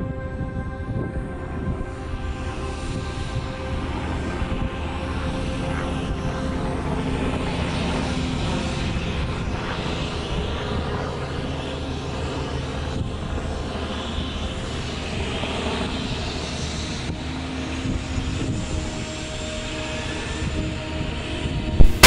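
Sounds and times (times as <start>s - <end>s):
helicopter turbine whine: 0.0s - 22.0s
helicopter rotor: 0.8s - 22.0s.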